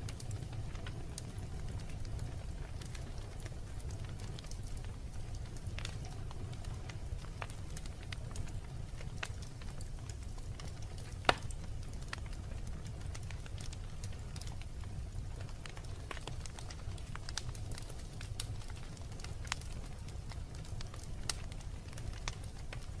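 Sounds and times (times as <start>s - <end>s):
fire low rumble: 0.0s - 23.0s
wood fire crackling and popping: 0.0s - 23.0s.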